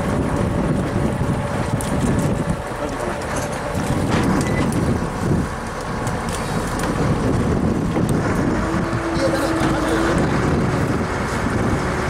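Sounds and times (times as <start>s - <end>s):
boat engine rumble: 0.0s - 12.0s
wind noise on microphone: 0.0s - 12.0s.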